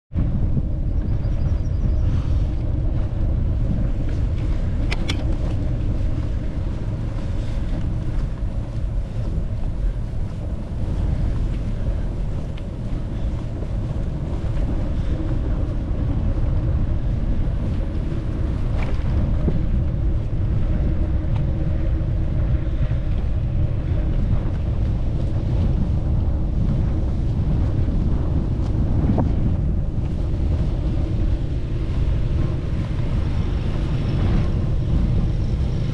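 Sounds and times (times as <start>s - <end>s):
wind buffeting microphone: 0.1s - 35.9s.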